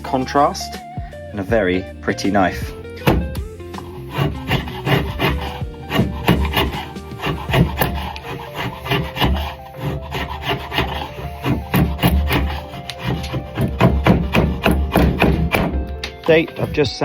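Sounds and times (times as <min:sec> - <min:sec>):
background music: 0:00.0 - 0:17.0
hand sanding scraping strokes: 0:02.4 - 0:16.8.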